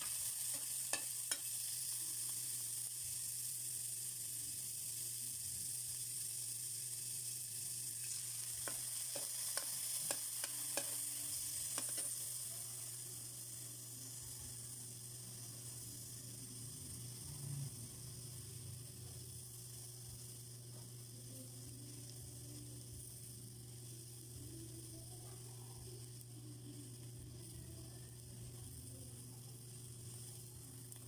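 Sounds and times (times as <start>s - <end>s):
meat sizzling in a wok: 0.0s - 31.0s.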